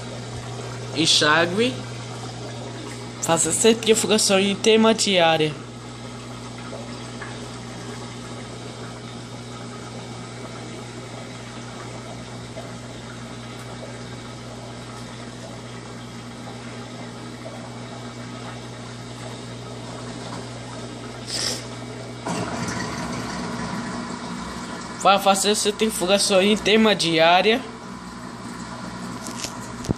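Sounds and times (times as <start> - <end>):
washing machine pumping water: 0.0 - 29.9.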